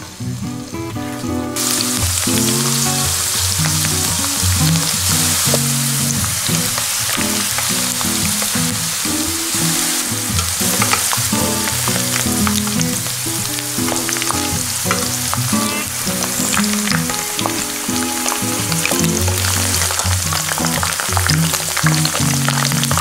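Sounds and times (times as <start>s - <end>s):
shrimp sizzling in a pan: 1.6s - 23.0s.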